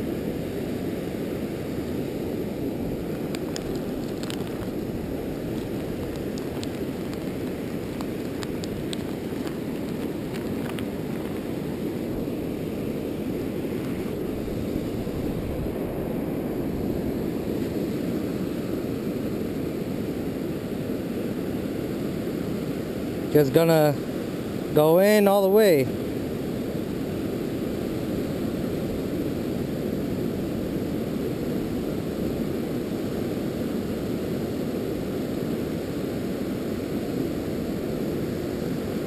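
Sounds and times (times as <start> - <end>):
ocean surf: 0.0 - 39.0
wind on a beach: 0.0 - 39.0.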